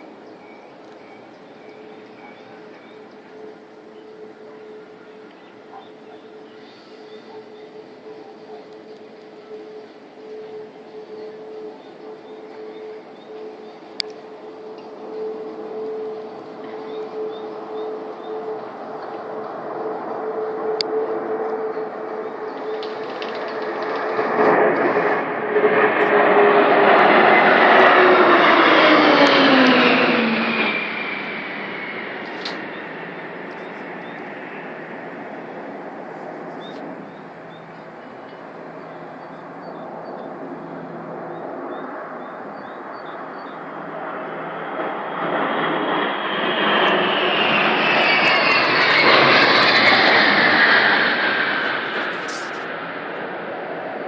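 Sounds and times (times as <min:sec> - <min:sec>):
jet aircraft roaring overhead: 0:00.0 - 0:54.0.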